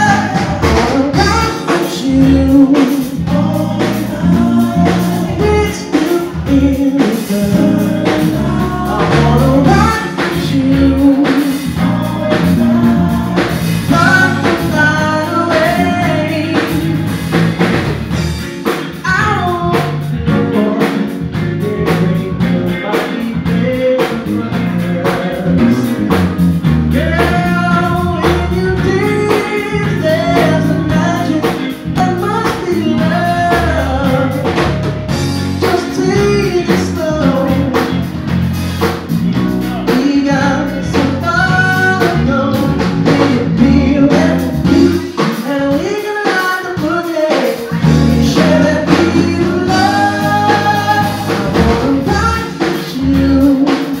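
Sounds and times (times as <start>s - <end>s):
bass guitar: 0.0s - 54.0s
drum kit: 0.0s - 54.0s
electric guitar: 0.0s - 54.0s
man singing lead: 0.0s - 54.0s.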